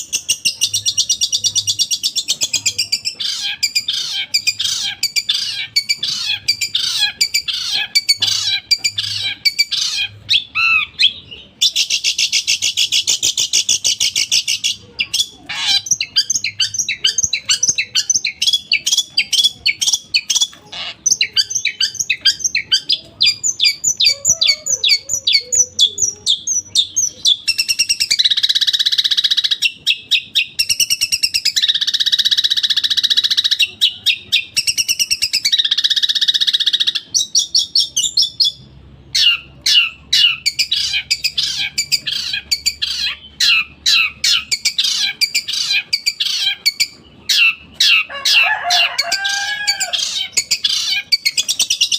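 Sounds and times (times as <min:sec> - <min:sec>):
bird singing chirps and trills: 0:00.0 - 0:51.9
harsh grating bird calls: 0:00.0 - 0:51.9.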